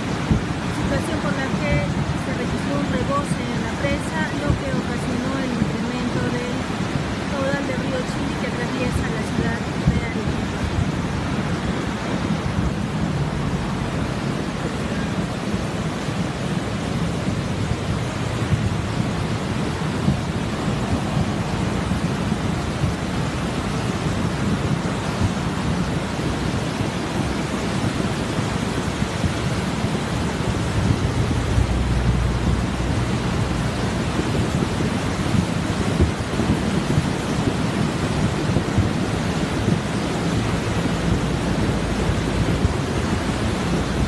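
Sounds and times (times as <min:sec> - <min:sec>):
river water rushing in rapids: 0:00.0 - 0:44.0.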